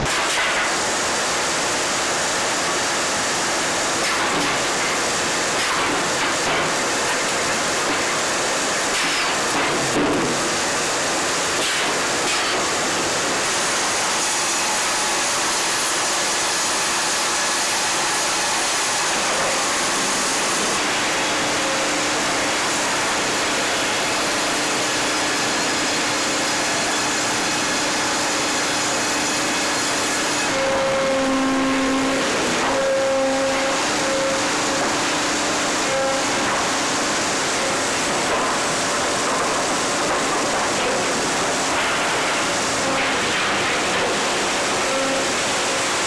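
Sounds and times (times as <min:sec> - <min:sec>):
saw cutting through log: 0:02.6 - 0:46.0.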